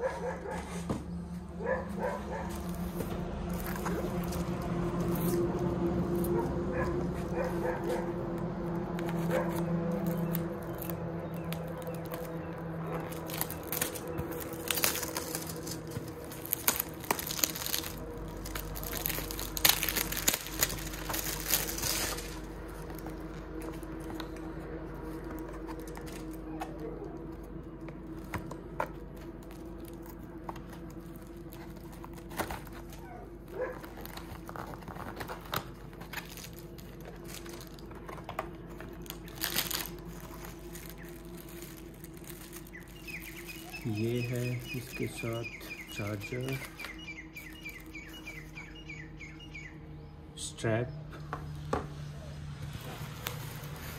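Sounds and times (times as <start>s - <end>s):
faint steady hum: 0.0s - 53.9s
packaging crinkling: 1.9s - 48.7s, 52.7s - 53.9s.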